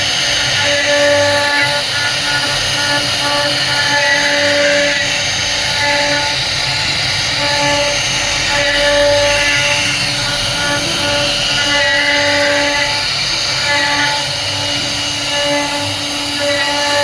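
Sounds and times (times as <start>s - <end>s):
router spindle cutting wood: 0.0s - 17.0s.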